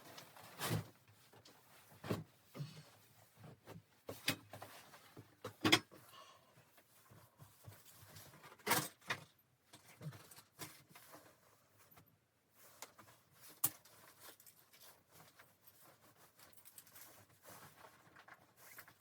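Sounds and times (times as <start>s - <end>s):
light rustling of objects: 0.0s - 19.0s.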